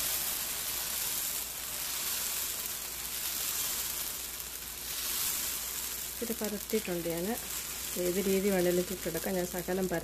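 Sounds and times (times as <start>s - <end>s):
batter sizzling in pan: 0.0s - 10.0s.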